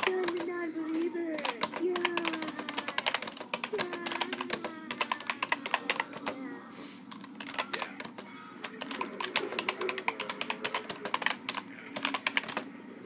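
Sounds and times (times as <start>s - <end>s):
computer keyboard typing: 0.0s - 6.4s, 7.1s - 12.7s
faint music: 0.0s - 13.0s.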